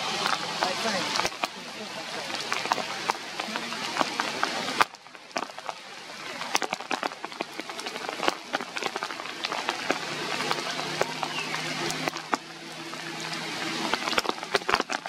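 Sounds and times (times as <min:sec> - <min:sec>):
rain on leaves: 0:00.0 - 0:15.0.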